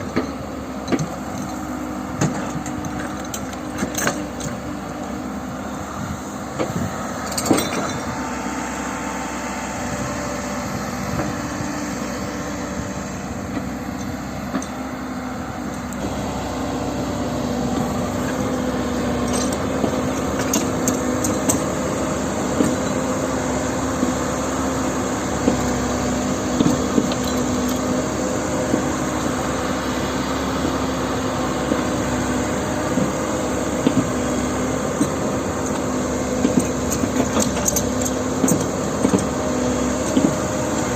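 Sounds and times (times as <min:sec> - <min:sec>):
diesel machinery engine hum: 0:00.0 - 0:40.9.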